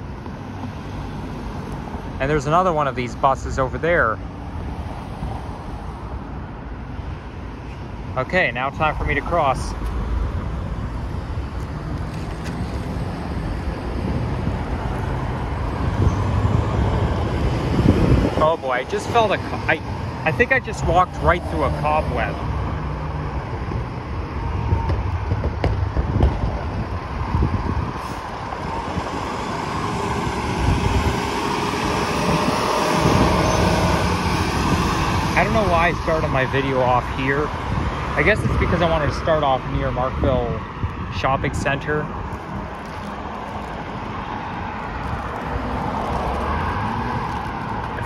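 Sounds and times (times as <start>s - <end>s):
road traffic: 0.0s - 48.0s
wind rumbling on microphone: 0.0s - 48.0s.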